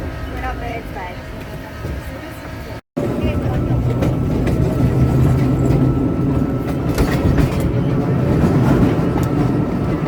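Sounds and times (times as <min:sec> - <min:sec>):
train rumbling on rails: 0:00.0 - 0:10.0
wheels clacking on track: 0:00.0 - 0:10.0.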